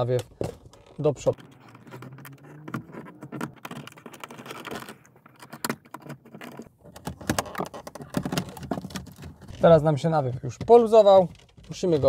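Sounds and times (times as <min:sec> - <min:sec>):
plastic clicks and scrapes: 0:00.1 - 0:09.8.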